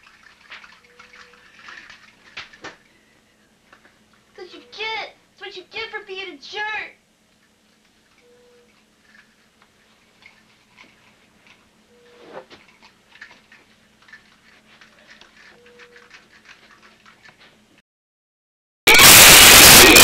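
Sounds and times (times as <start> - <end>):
faint low hum: 0.0 - 17.8.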